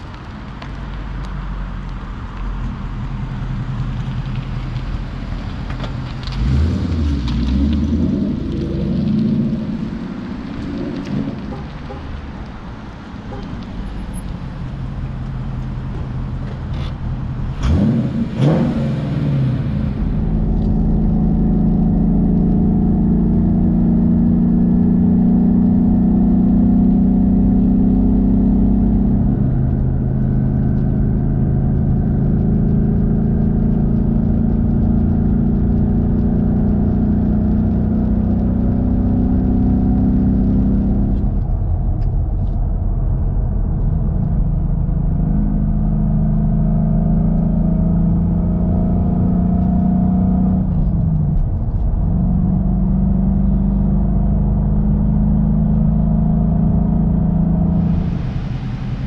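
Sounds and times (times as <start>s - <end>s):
car engine driving: 0.0s - 59.0s.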